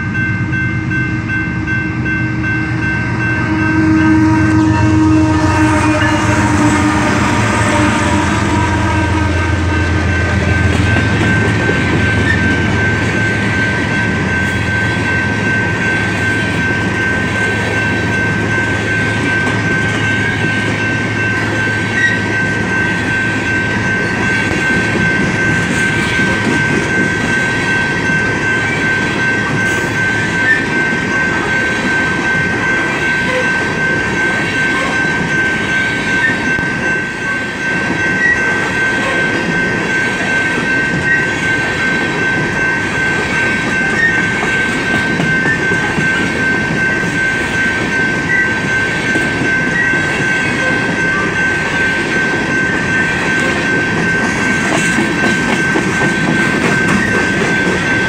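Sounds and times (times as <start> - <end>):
high-pitched tone: 0.0 - 58.0
locomotive drone: 0.0 - 58.0
train wheels clattering on rail: 10.3 - 37.0, 37.7 - 58.0.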